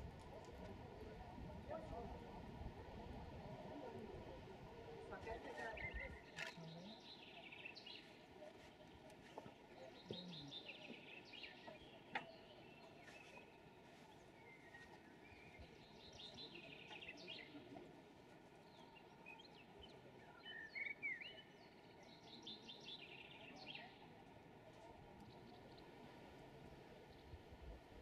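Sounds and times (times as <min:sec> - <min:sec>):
faint songbirds singing: 0:05.1 - 0:28.0.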